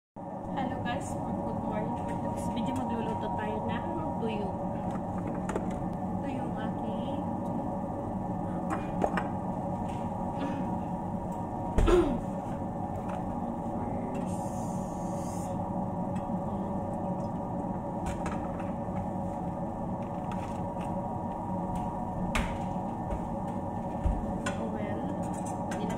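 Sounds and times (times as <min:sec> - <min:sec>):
background hum: 0:00.2 - 0:25.9.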